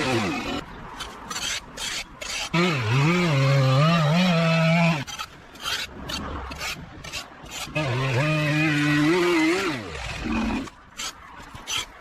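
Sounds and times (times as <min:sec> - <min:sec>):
rasping scrapes: 0:00.0 - 0:12.0.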